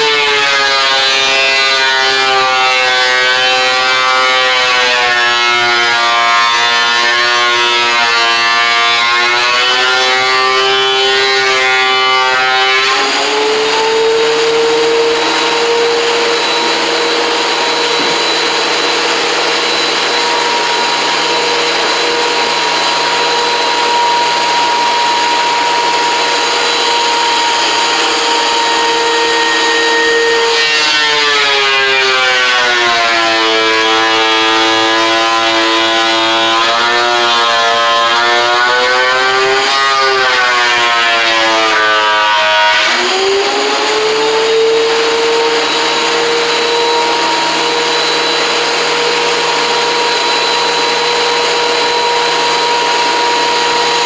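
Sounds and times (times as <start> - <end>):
power tool motor cutting wood: 0.0 - 54.0.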